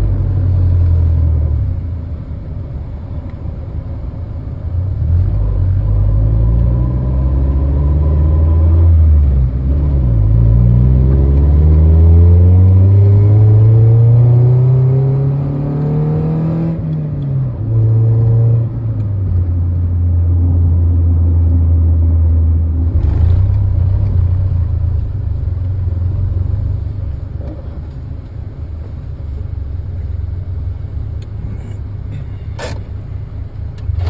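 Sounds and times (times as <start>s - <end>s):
car engine droning: 0.0s - 34.0s.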